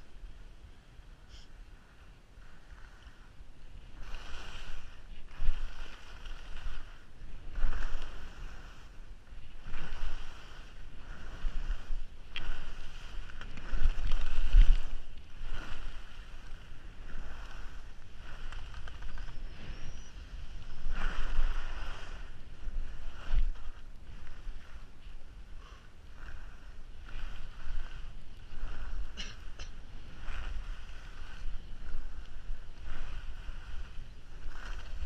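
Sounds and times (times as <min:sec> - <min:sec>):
wind rumble on microphone: 0:00.0 - 0:35.0
skis scraping on snow: 0:01.3 - 0:35.0.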